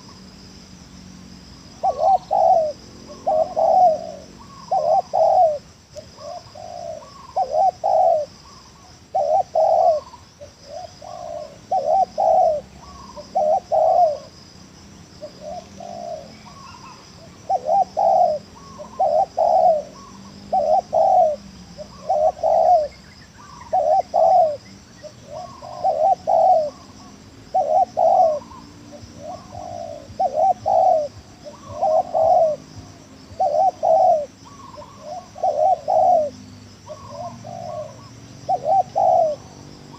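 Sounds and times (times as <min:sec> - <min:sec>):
dove cooing: 0:01.7 - 0:14.4, 0:15.2 - 0:39.9.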